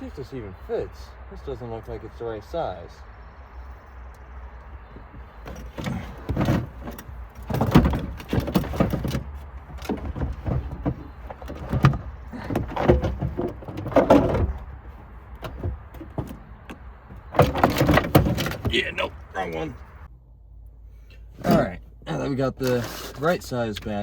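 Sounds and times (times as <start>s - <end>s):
car battery clunking and scraping: 3.5s - 20.1s, 21.0s - 24.0s.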